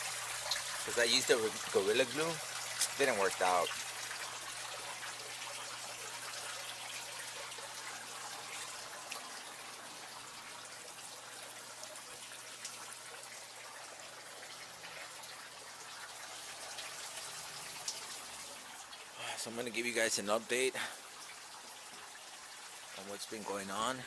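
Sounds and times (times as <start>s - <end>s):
water dripping: 0.0s - 24.0s
water trickling: 0.0s - 24.0s.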